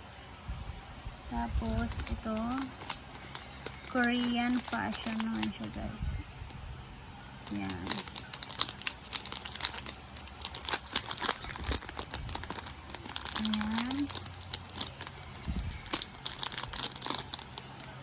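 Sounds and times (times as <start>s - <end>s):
packaging crinkling: 1.4s - 6.1s, 7.4s - 18.0s.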